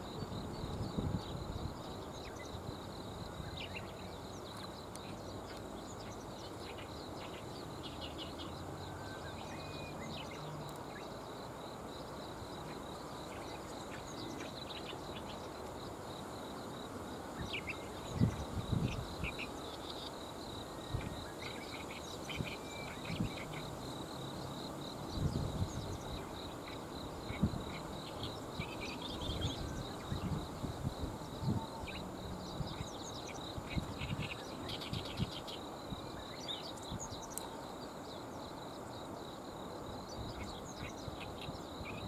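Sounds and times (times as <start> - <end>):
insect drone: 0.0 - 42.0.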